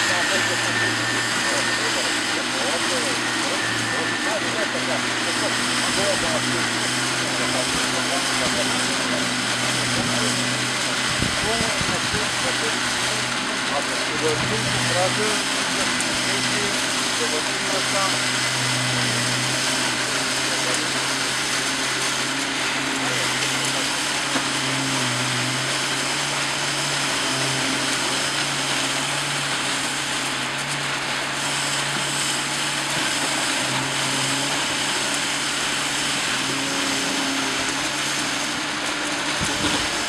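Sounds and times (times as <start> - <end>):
concrete vibrator motor hum: 0.0 - 40.0.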